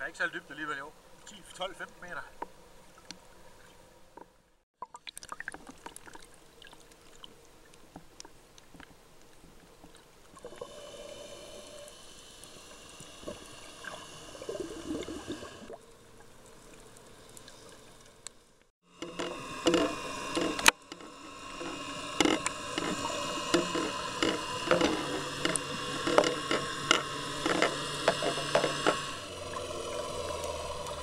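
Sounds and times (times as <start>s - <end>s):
underwater clicks and crackles: 2.4s - 10.8s, 11.8s - 31.0s
hissing and gurgling water: 4.8s - 31.0s.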